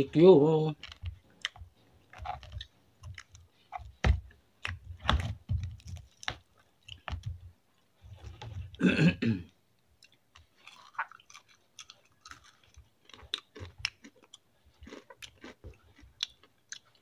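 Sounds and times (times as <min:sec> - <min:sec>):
person chewing food: 0:00.8 - 0:08.8, 0:10.0 - 0:17.0.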